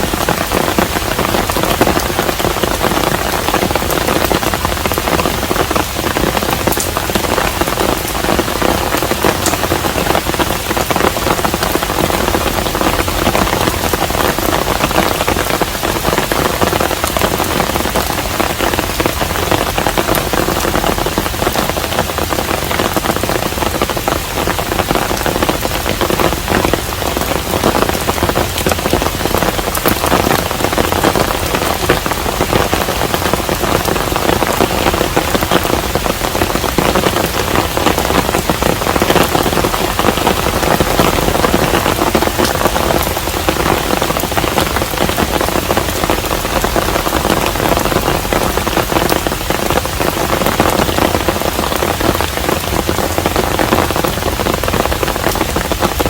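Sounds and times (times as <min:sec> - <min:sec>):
rain falling on a house: 0:00.0 - 0:56.0.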